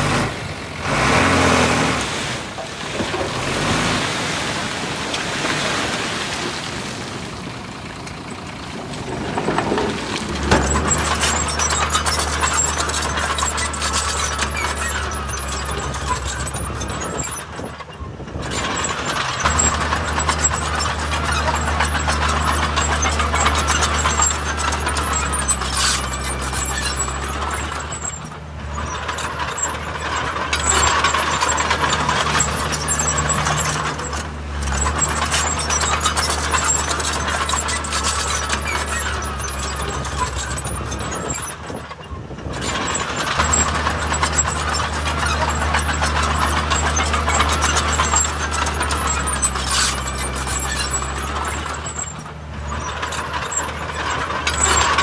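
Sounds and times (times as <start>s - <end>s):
diesel engine drone: 0.0s - 55.0s
metal clanking and scraping: 8.8s - 55.0s.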